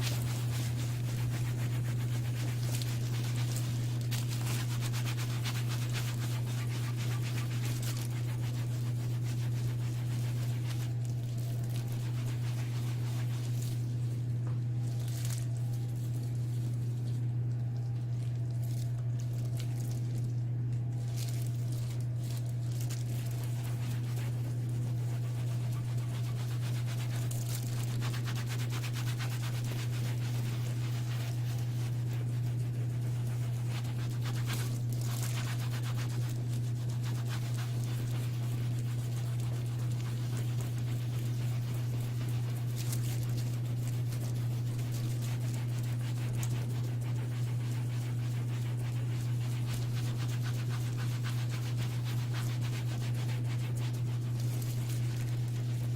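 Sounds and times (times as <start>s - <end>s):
faint rubbing noises: 0.0s - 55.9s
low electrical hum: 0.0s - 55.9s.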